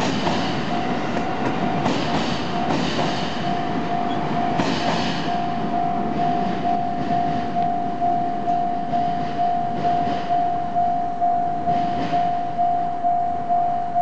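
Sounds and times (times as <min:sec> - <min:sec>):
level crossing warning bell: 0:00.0 - 0:14.0
train rumbling past: 0:00.0 - 0:14.0.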